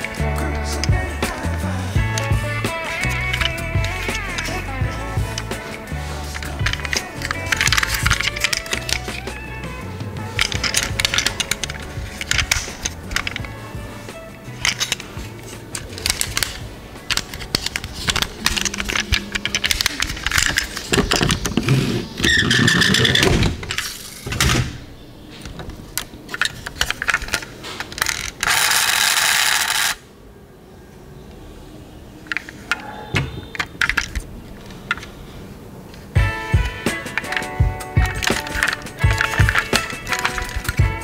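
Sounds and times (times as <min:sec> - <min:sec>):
toy car doors snapping shut: 0:00.0 - 0:09.6, 0:10.2 - 0:30.0, 0:32.3 - 0:35.2, 0:36.0 - 0:41.0
metal toy cars clicking: 0:00.0 - 0:30.1, 0:32.0 - 0:41.0.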